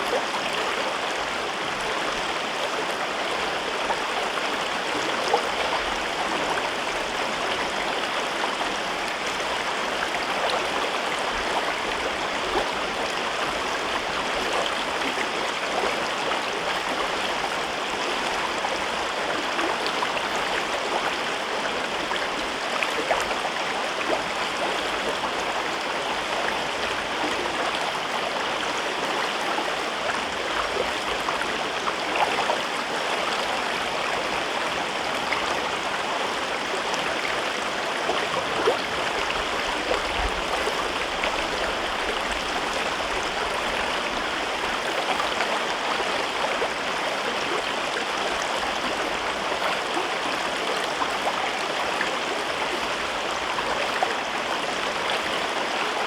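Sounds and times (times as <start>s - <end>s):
river rushing and babbling: 0.0s - 56.0s.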